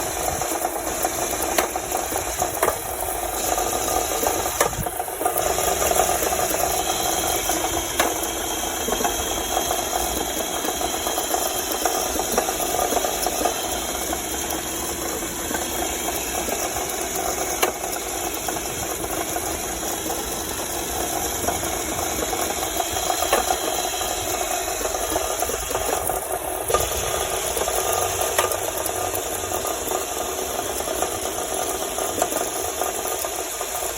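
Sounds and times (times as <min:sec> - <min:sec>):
car engine running: 0:00.0 - 0:33.9
engine knocking and rattling: 0:00.0 - 0:33.9.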